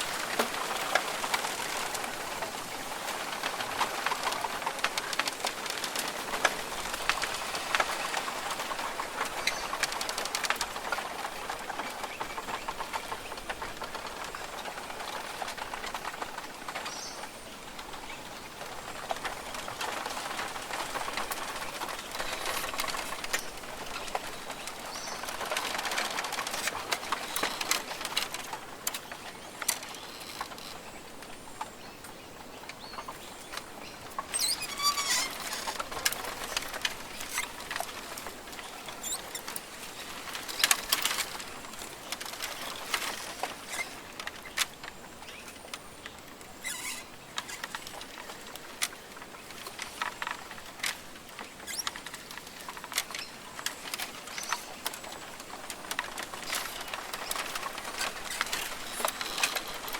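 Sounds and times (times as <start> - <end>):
rain dripping on foliage: 0.0 - 59.9.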